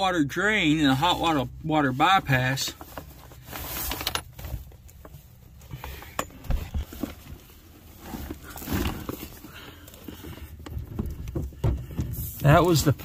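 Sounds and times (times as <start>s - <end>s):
handling rustling: 2.2s - 13.0s.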